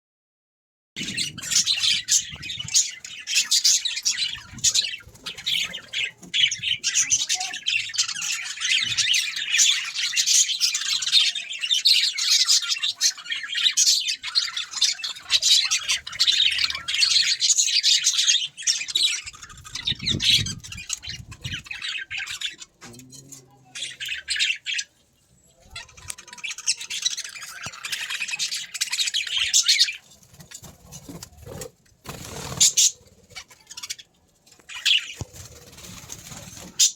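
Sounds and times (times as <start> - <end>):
budgerigars chattering and squawking: 1.0 - 36.9.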